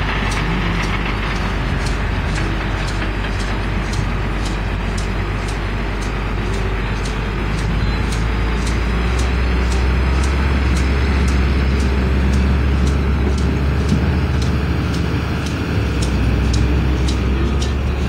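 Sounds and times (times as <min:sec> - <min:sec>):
truck engines droning: 0:00.0 - 0:18.0
short high ticks: 0:00.2 - 0:17.8.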